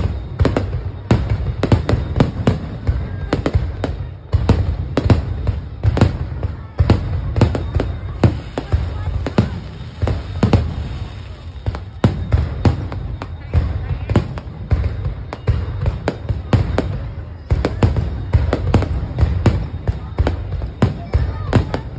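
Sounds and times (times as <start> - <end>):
fireworks bursting: 0.0 - 21.9.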